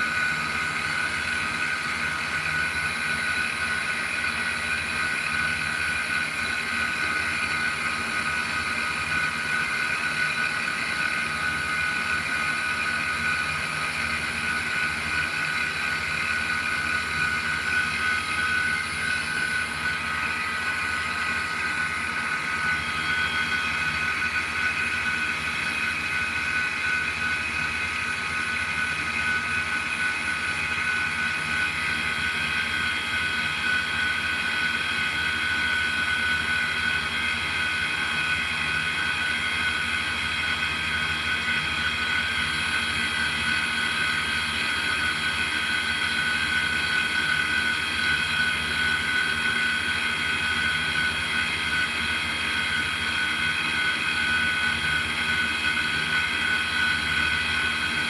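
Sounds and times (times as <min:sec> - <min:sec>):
electric motor whirring whine: 0:00.0 - 0:58.0.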